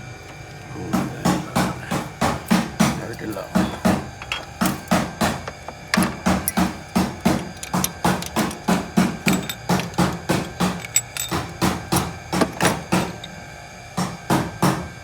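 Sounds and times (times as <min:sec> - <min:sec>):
hand tool knocking on metal: 0:00.3 - 0:13.4.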